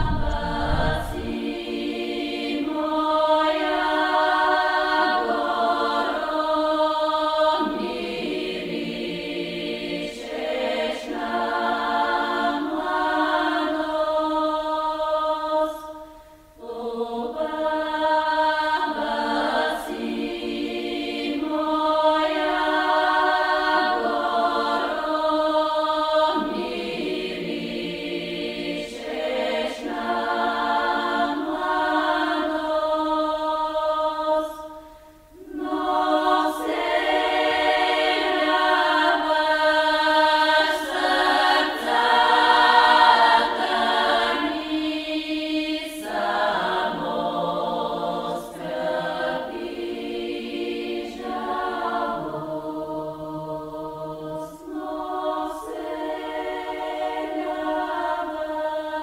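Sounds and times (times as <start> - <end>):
choir-like background music: 0.0 - 59.0.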